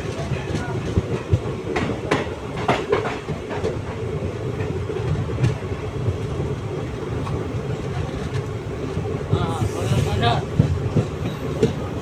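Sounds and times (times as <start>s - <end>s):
train coaches rumbling: 0.0s - 12.0s
wheels clicking over rail joints: 0.0s - 12.0s.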